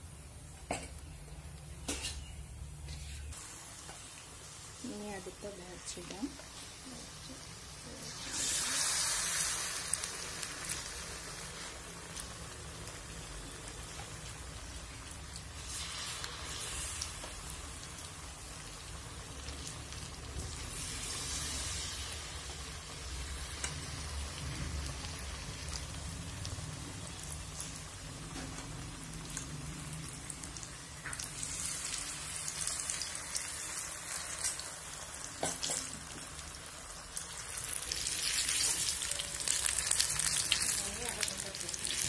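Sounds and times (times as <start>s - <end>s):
battered pieces deep-frying in oil: 0.0s - 42.0s.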